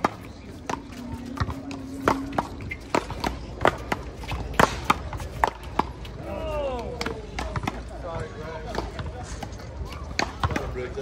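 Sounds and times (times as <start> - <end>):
ball striking wall and ground: 0.0 - 11.0.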